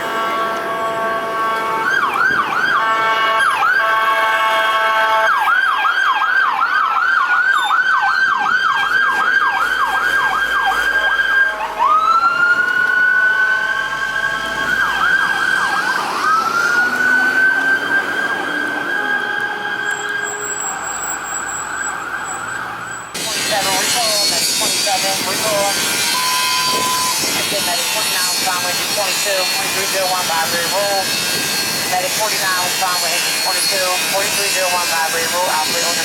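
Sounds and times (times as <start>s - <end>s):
air horn blasts: 0.0s - 5.6s, 11.0s - 21.5s, 23.2s - 36.0s
fire engine siren wail and yelp: 0.0s - 36.0s.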